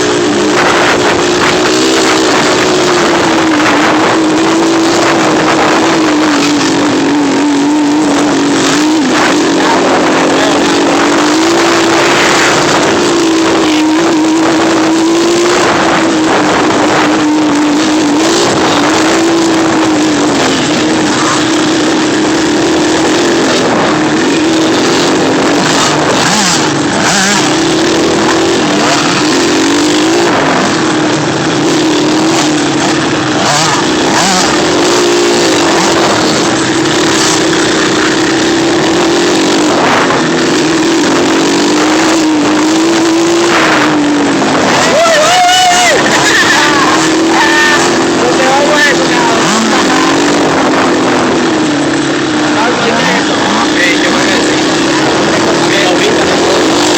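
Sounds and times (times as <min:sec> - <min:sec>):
constant rushing noise: 0:00.0 - 0:56.9
off-road vehicle engine running: 0:00.0 - 0:56.9.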